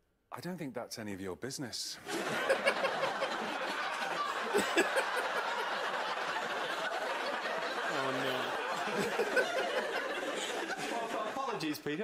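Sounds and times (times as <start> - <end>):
studio audience laughing: 2.0 - 12.0.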